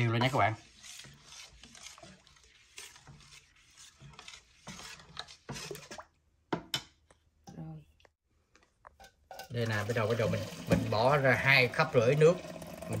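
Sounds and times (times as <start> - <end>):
batter stirred in metal pot: 0.0 - 7.3, 8.5 - 13.0.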